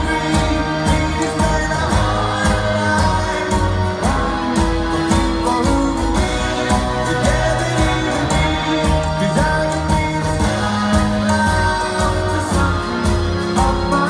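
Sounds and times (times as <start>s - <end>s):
live rock band playing: 0.0s - 14.0s
steady drum beat: 0.0s - 14.0s.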